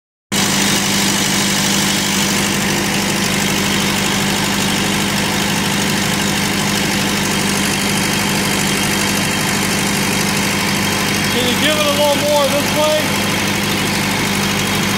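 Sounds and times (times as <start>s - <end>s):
bulldozer engine idling: 0.3s - 14.9s.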